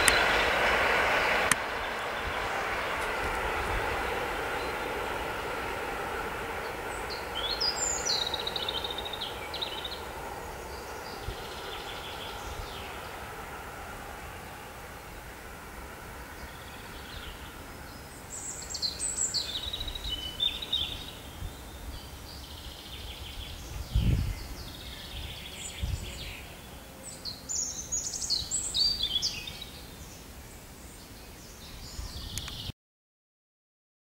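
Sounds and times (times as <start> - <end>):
songbirds singing: 0.0 - 15.6, 16.2 - 32.7.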